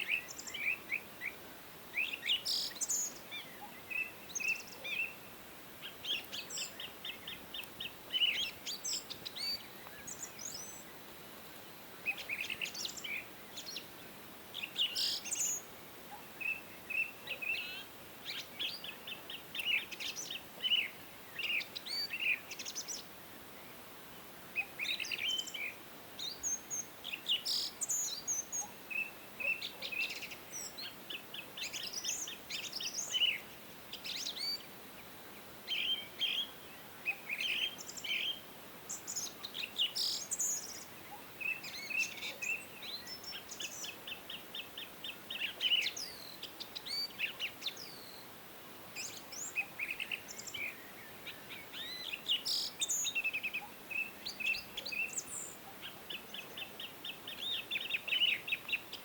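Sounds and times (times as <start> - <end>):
faint background hiss: 0.0 - 59.0
songbirds singing and chirping: 0.0 - 59.0.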